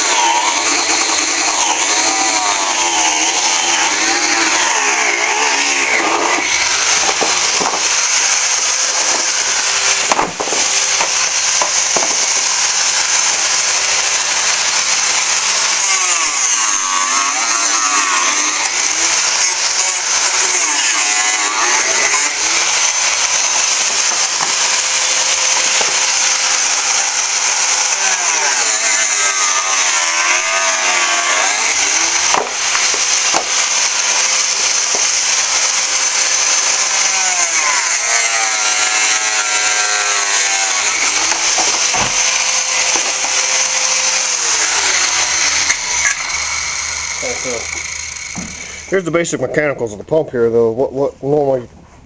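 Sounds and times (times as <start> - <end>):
angle grinder cutting casing: 0.0 - 50.2.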